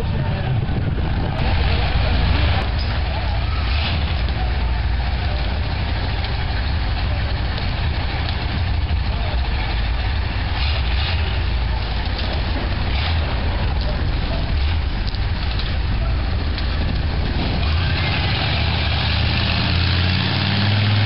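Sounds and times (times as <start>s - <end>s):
truck engine running at low revs: 0.0s - 21.0s.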